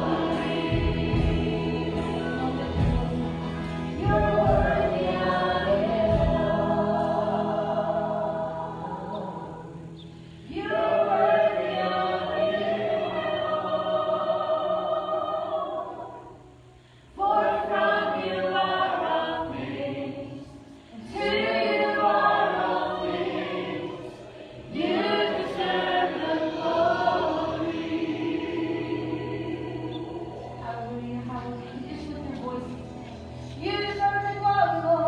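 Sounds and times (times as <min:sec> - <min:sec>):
group of voices singing: 0:00.0 - 0:35.0.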